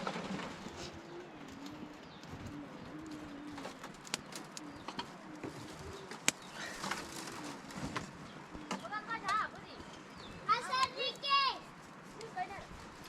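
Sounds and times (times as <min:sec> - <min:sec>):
pigeons cooing: 0:00.0 - 0:10.8.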